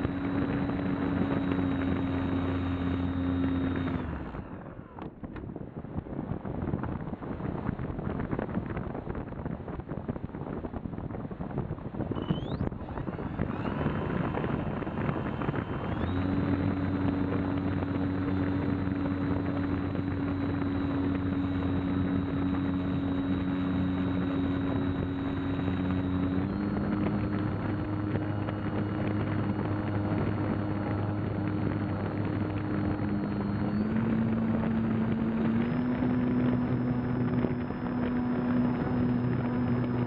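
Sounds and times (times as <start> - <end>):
steady hum: 0.0 - 9.4, 10.0 - 40.0.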